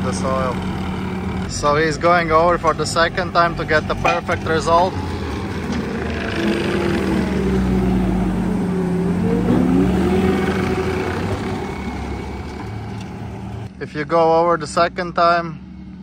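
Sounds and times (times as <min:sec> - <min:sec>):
machine whine shifting pitch: 0:00.0 - 0:13.7
loader diesel engine and hydraulics: 0:00.0 - 0:16.0.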